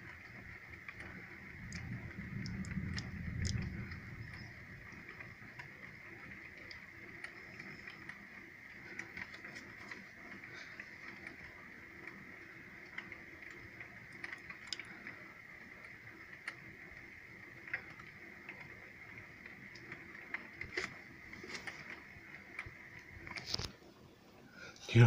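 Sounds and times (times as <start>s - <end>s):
raindrops ticking close by: 0.0s - 20.8s
steady rain: 0.0s - 23.6s.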